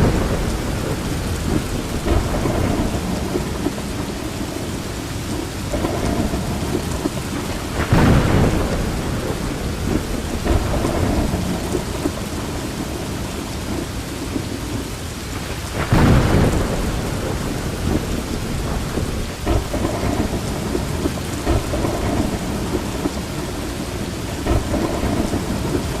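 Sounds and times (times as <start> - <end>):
loud thunderclap: 0.0 - 14.6, 15.3 - 26.0
steady rain: 0.0 - 26.0
thunder rumbling: 0.0 - 26.0.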